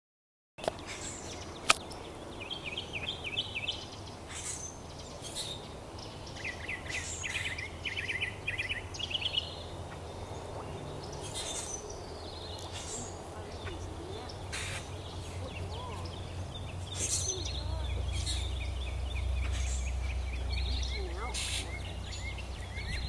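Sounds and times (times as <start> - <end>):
songbird chirping: 0.6 - 23.0
low hum: 1.2 - 23.0.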